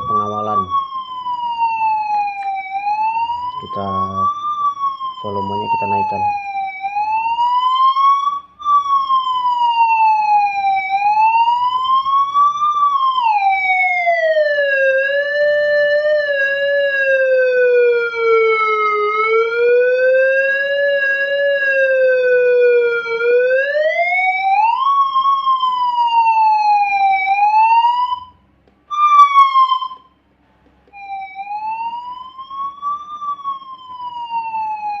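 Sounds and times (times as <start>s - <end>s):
electronic siren wailing: 0.0s - 30.2s, 30.9s - 35.0s.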